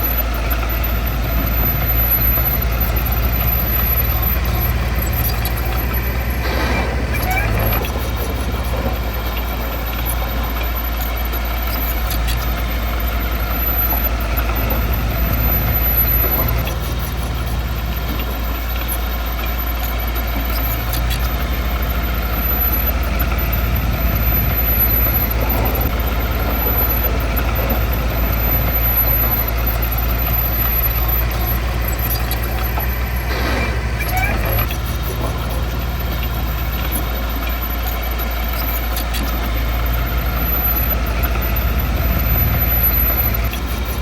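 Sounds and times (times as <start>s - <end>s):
heavy diesel engine droning: 0.0s - 44.0s.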